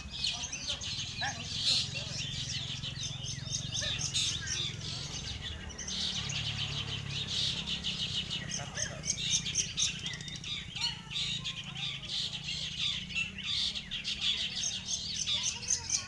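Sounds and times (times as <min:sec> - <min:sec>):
many birds chirping: 0:00.0 - 0:16.0.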